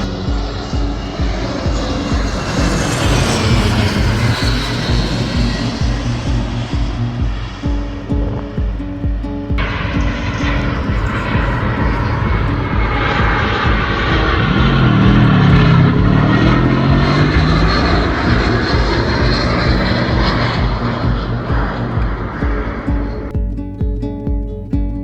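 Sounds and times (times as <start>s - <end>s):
airliner engines roaring overhead: 0.0s - 23.4s.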